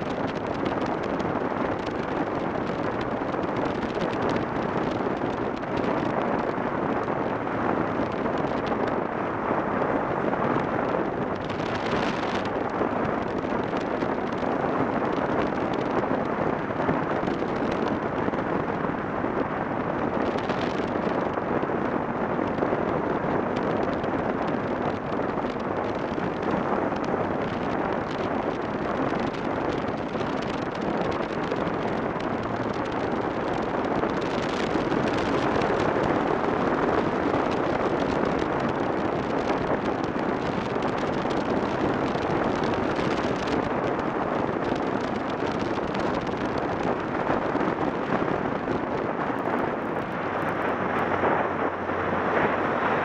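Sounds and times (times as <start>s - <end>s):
wind rush on microphone: 0.0s - 53.0s.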